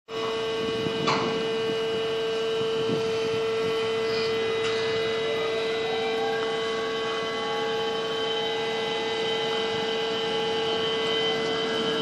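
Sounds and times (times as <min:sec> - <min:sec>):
crane machinery electric hum: 0:00.1 - 0:12.0.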